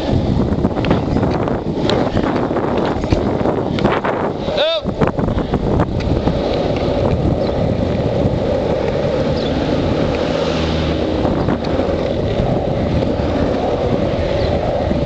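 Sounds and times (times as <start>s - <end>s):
longboard wheels rolling on asphalt: 0.0s - 15.0s
wind buffeting microphone: 0.0s - 15.0s.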